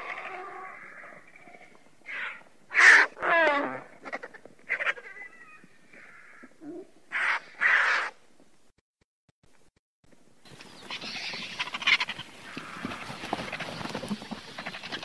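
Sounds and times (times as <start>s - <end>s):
vultures calling harshly: 0.0s - 8.2s, 10.5s - 15.0s.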